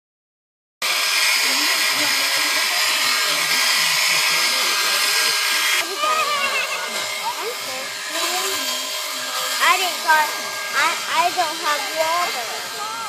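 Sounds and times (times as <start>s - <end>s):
electric shears buzzing: 0.8s - 13.0s.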